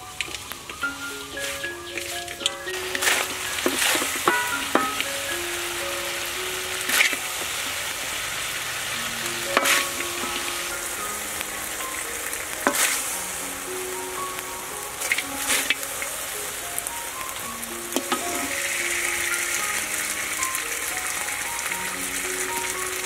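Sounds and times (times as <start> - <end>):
chicken sizzling in a wok: 0.0 - 23.0.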